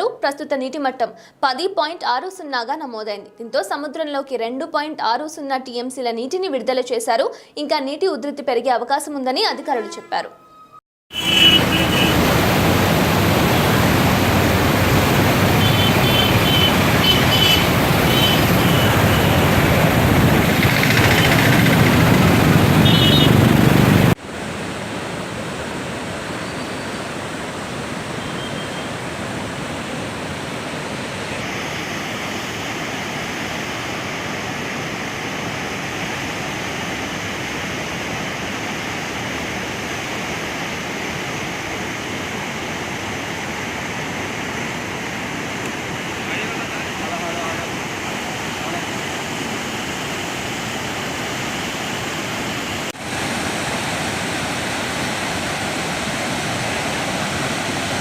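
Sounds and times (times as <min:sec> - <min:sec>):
flood water rushing: 0:11.1 - 0:58.0.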